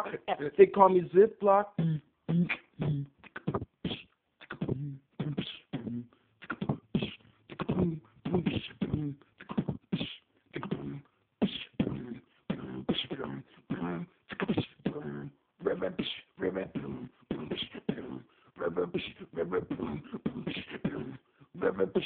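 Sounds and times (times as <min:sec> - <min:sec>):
beatboxer imitating record scratching: 0:01.5 - 0:22.0.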